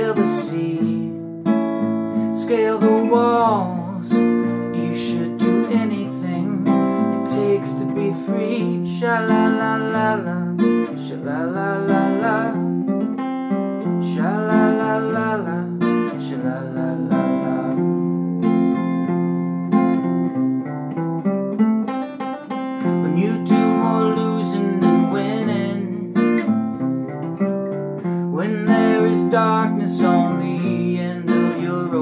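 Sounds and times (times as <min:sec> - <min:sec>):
acoustic guitar picking and strumming: 0:00.0 - 0:32.0.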